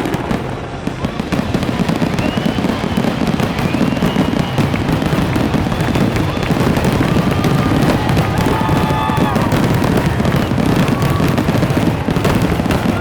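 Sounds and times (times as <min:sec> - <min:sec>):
fireworks booming and crackling: 0:00.0 - 0:13.0
whistling fireworks: 0:00.0 - 0:13.0.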